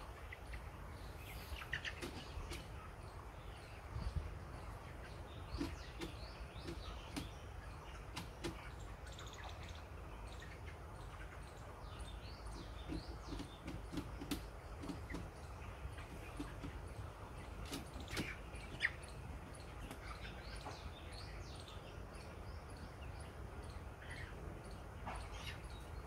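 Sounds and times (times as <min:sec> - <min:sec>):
chicks cheeping: 0:00.0 - 0:26.0.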